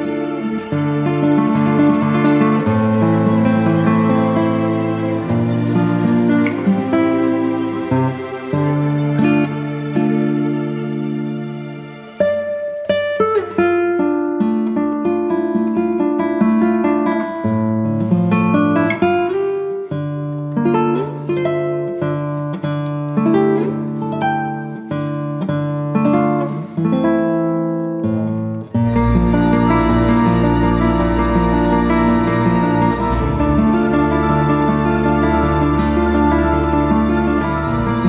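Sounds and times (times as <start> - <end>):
acoustic guitar melody: 0.0 - 38.0.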